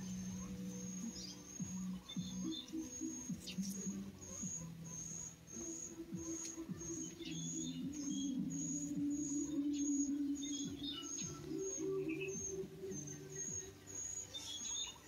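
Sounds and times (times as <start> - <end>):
birds chirping: 0.0 - 15.0
low background music: 0.0 - 15.0.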